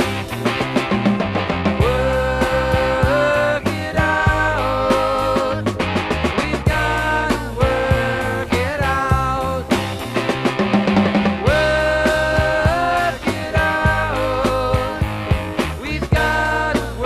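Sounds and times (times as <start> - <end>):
bass: 0.0 - 17.0
rock music from vinyl record: 0.0 - 17.0
steady drum beat: 0.0 - 17.0.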